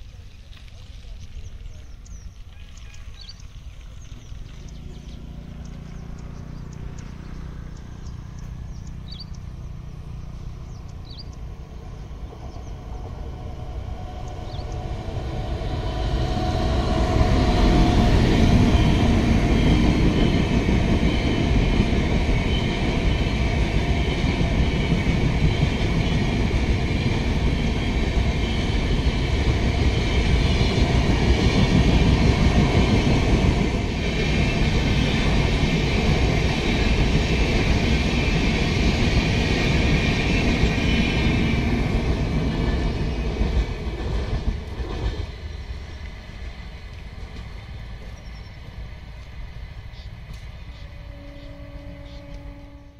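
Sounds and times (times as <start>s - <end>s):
train rumbling and rattling past: 0.0s - 52.9s.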